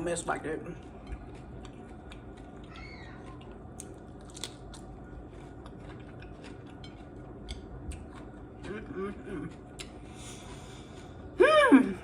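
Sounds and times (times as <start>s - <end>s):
crunchy chewing: 0.7s - 11.4s.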